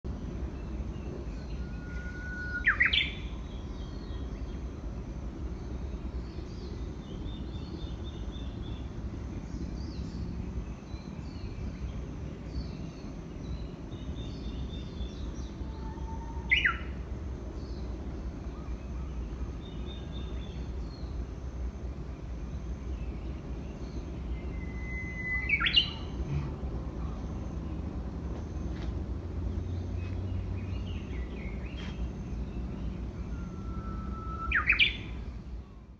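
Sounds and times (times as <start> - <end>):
bush warbler singing: 0.1 - 35.9.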